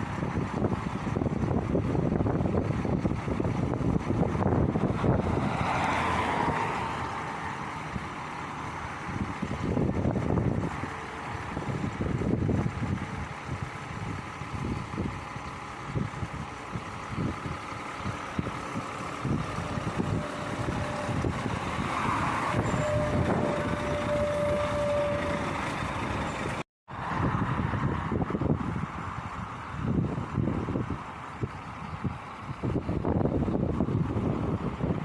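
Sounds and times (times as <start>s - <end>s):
motorway traffic rumble: 0.0s - 35.0s.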